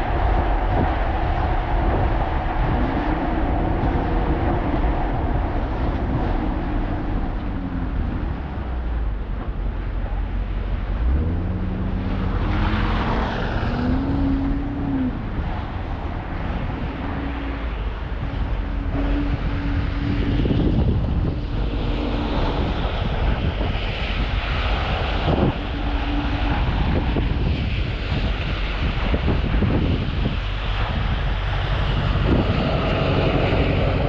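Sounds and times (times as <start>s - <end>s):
car engine droning: 0.0s - 34.0s
road and wind noise: 0.0s - 34.0s.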